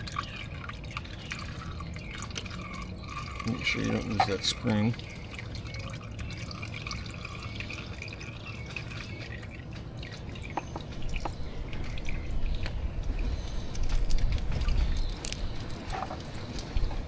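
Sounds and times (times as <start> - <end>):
oil dripping into a pan: 0.0 - 17.0.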